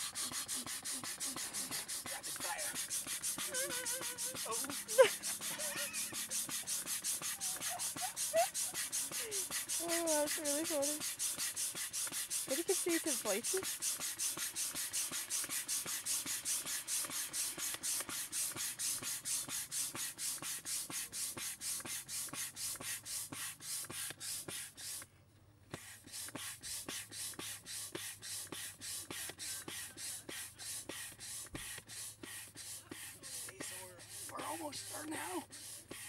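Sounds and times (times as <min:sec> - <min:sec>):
hand air pump puffs: 0:00.0 - 0:36.0.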